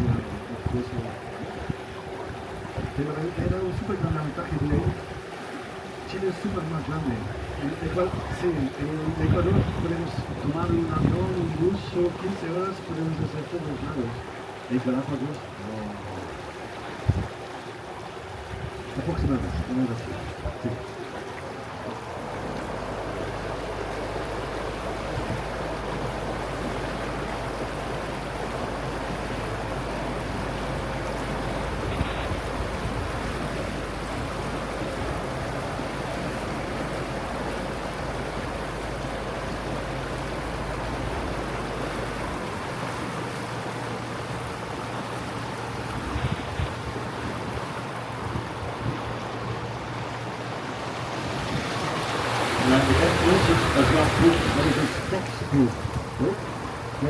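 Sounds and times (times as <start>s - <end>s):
boat motor hum: 0.0s - 57.0s
water noise: 0.0s - 57.0s
wind: 0.0s - 57.0s.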